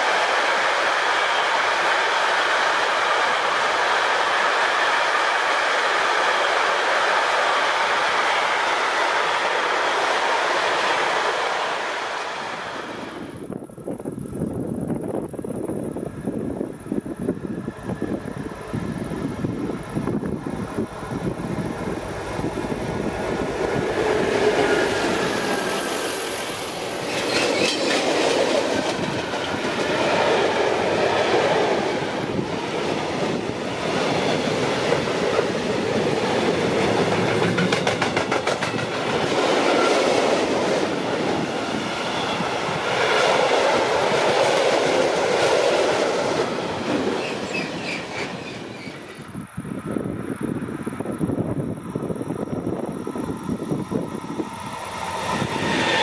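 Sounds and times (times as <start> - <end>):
clickety-clack of wheels on rails: 0.0 - 49.5
freight train rumbling past: 0.0 - 56.0.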